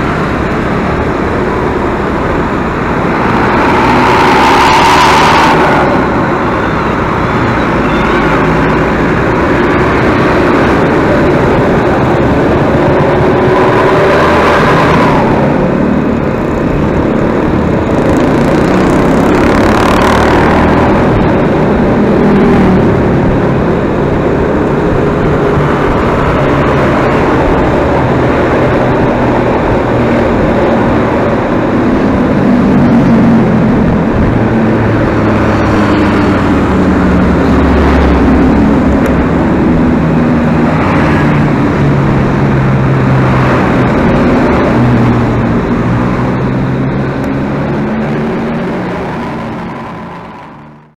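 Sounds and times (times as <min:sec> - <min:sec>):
bus engine and road noise: 0:00.0 - 0:50.9.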